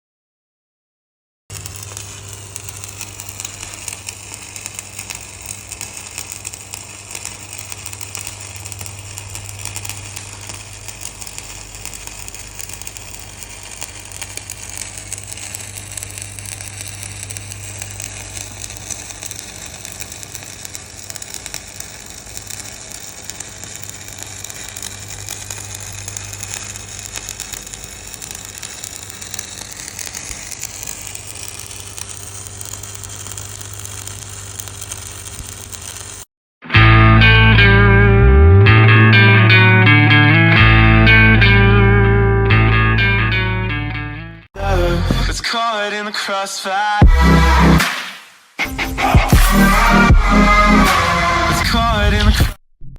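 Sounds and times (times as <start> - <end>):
arc welding crackling: 1.5 - 43.5, 44.6 - 52.4.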